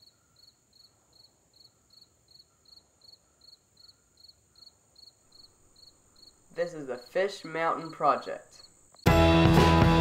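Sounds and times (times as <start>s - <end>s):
insect chirping: 0.0s - 9.1s.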